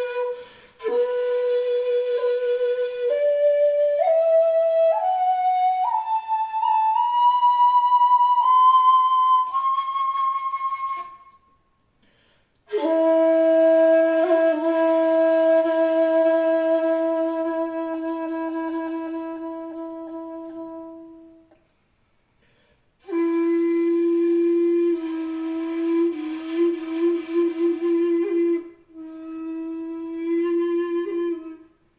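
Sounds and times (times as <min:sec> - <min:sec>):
bamboo flute notes: 0:00.0 - 0:11.7, 0:12.7 - 0:21.5, 0:23.0 - 0:31.8.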